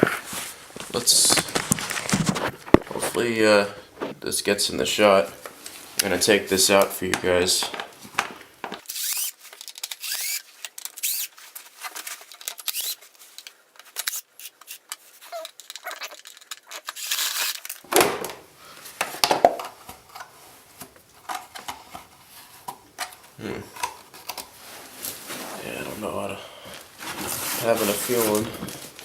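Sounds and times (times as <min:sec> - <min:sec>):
plastic rustling and crinkling: 0:00.0 - 0:04.2, 0:05.2 - 0:29.0.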